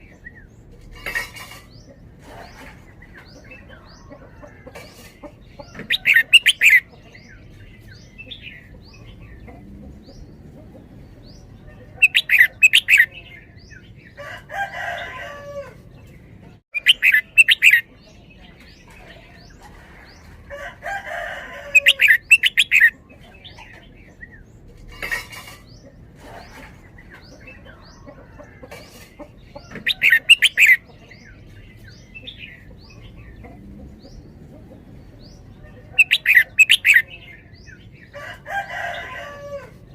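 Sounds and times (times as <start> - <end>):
bird song phrases: 0.0 - 39.9.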